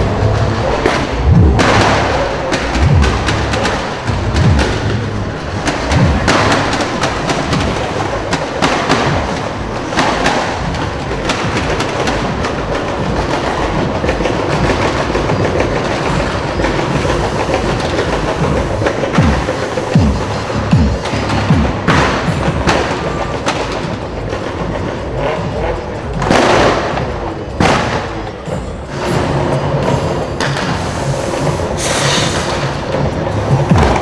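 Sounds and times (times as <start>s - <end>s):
low thuds: 0.0s - 24.8s, 26.1s - 34.0s
car engines and exhausts rumbling: 0.0s - 34.0s.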